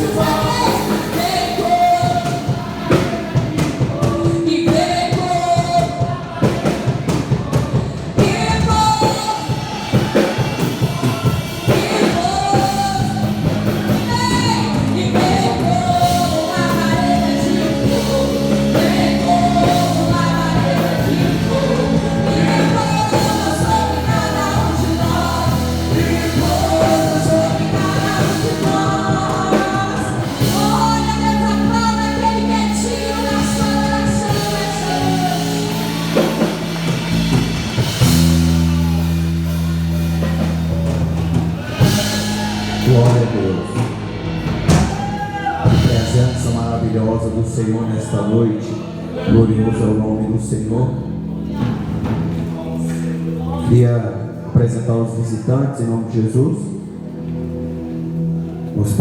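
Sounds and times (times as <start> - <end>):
drums: 0.0 - 48.2, 50.4 - 53.9
voices singing: 0.0 - 54.0
held bass chords: 0.0 - 59.0.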